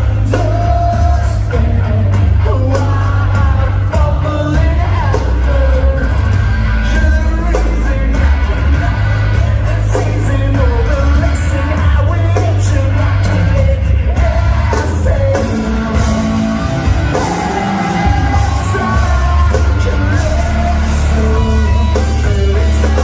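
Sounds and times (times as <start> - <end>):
live rock band playing: 0.0 - 23.0
person singing: 0.0 - 23.0.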